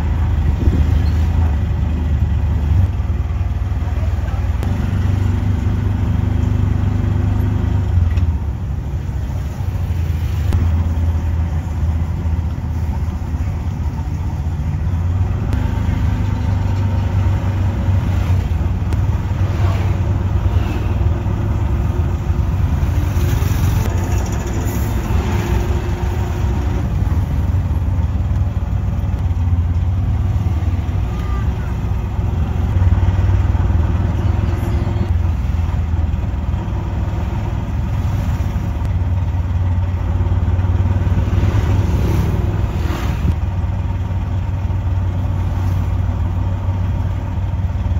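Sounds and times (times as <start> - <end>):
surrounding traffic noise: 0.0 - 47.9
vehicle engine humming: 0.0 - 47.9.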